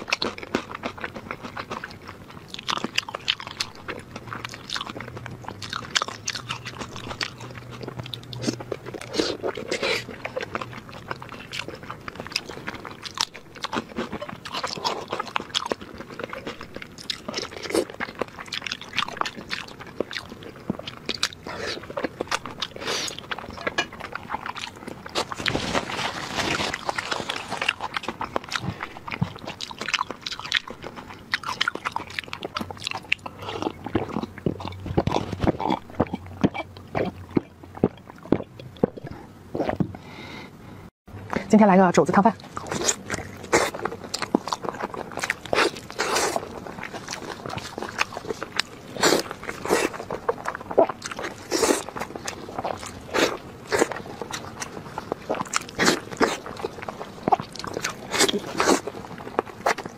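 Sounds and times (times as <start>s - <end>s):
person chewing with wet mouth smacks: 0.0s - 40.0s, 42.4s - 59.9s.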